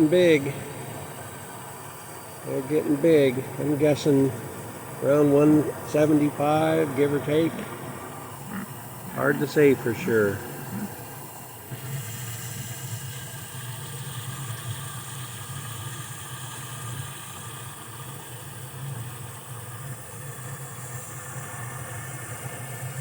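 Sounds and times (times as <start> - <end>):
even hiss: 0.0 - 23.0
low engine-like hum: 0.0 - 23.0.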